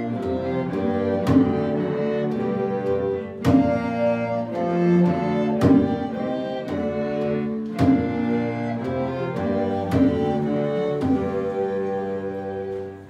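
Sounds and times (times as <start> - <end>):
string ensemble playing: 0.0 - 13.0
frame drum strikes: 0.2 - 4.3, 4.9 - 11.7.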